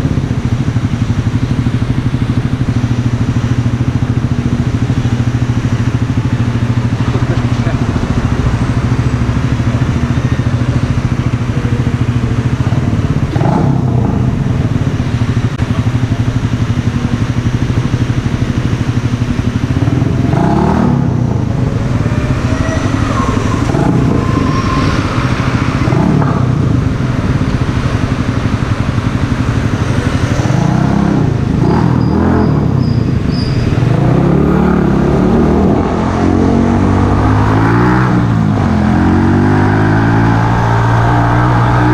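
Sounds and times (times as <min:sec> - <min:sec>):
motorcycle engine idling: 0:00.0 - 0:33.9
motorcycle engine revving: 0:00.0 - 0:41.9.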